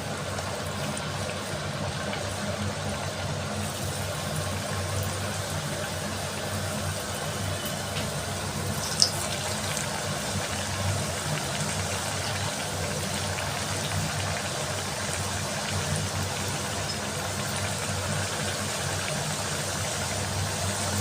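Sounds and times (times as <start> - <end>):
dough frying in hot oil: 0.0 - 21.0.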